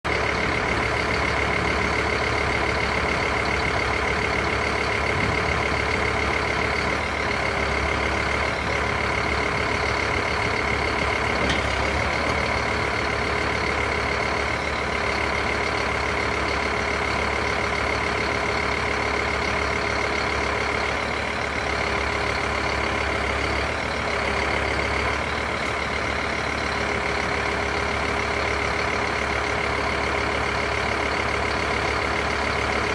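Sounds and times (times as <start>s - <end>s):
truck diesel engine running: 0.0s - 32.9s.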